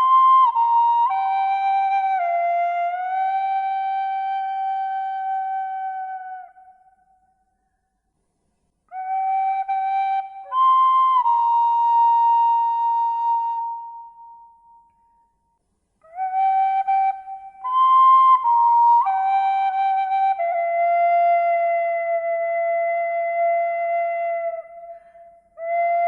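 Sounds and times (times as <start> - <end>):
slow flute melody: 0.0 - 7.9, 8.9 - 26.0.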